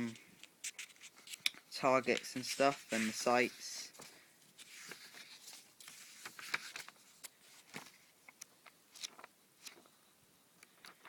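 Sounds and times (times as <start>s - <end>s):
paper rustling: 0.6s - 1.4s, 2.0s - 9.9s, 10.7s - 11.0s.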